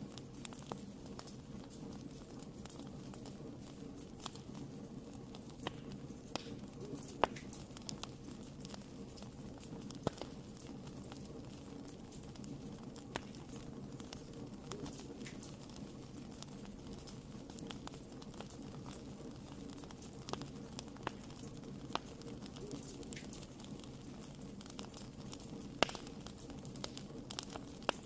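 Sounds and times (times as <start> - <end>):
fire crackling and popping: 0.0 - 28.0
fire flames rumbling: 0.0 - 28.0.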